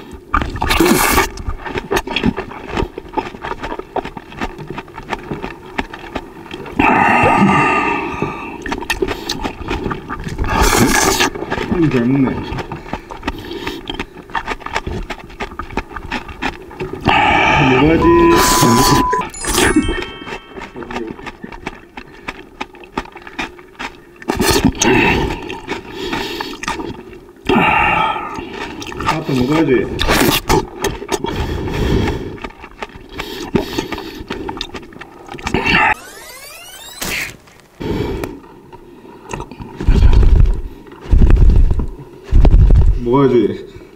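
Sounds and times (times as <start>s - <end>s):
crunching cabbage: 0.0s - 19.5s, 20.2s - 36.0s, 39.3s - 43.3s.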